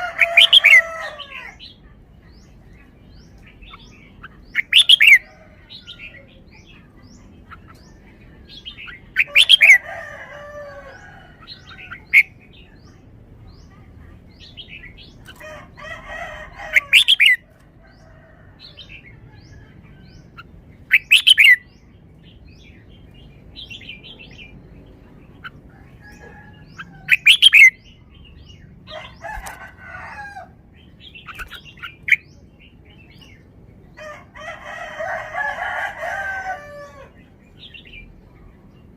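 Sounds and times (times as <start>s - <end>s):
bird chattering: 0.0s - 21.7s, 22.3s - 34.0s.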